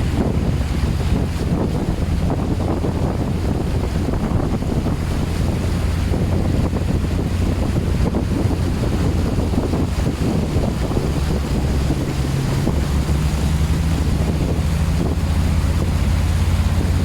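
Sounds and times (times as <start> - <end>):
low rumble: 0.0 - 17.0
water rushing and splashing: 0.0 - 17.0.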